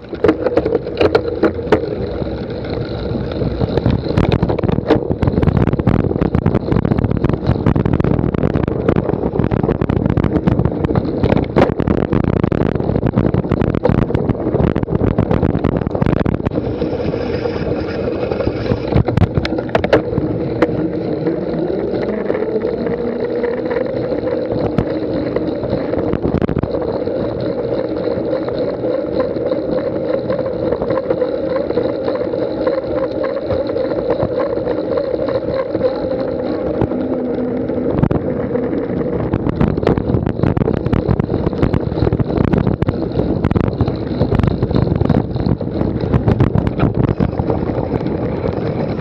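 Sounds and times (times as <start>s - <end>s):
bike rattling over rough ground: 0.0s - 49.0s
wind rush and tyre hum: 0.0s - 49.0s.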